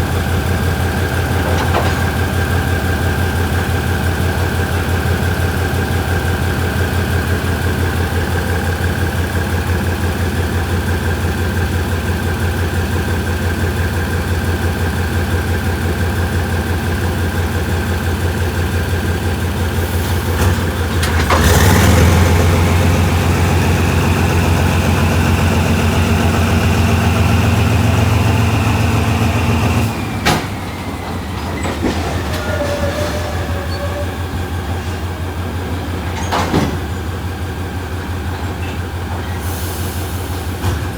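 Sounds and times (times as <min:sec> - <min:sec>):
diesel train engine running: 0:00.0 - 0:40.9.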